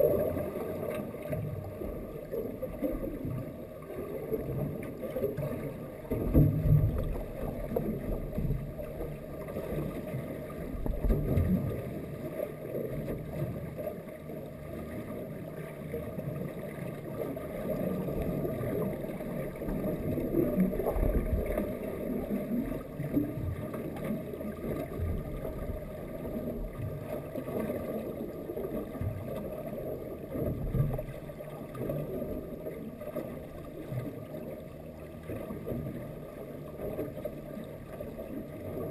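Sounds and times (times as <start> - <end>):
muffled underwater rumble: 0.0 - 38.9.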